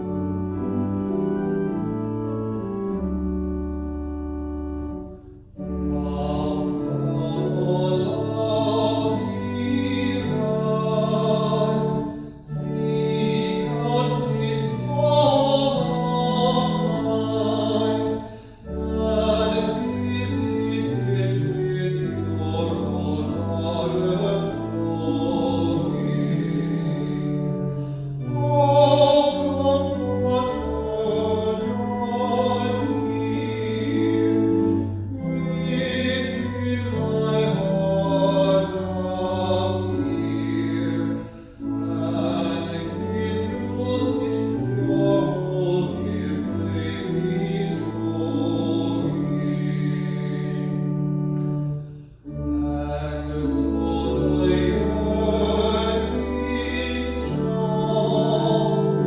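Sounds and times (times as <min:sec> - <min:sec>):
instrumental accompaniment chords: 0:00.0 - 0:59.0
person singing with vibrato: 0:05.0 - 0:59.0.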